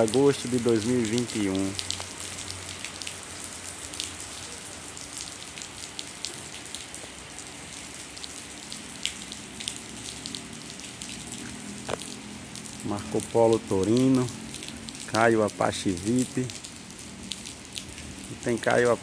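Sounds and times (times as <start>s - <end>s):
rain on concrete: 0.0s - 19.0s.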